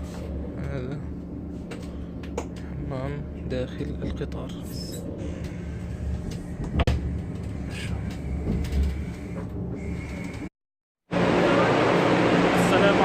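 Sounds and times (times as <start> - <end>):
train carriage rumble: 0.0 - 10.5.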